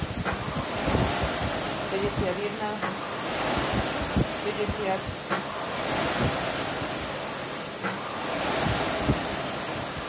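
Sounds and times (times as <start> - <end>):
rowing machine flywheel whooshing: 0.0 - 10.0.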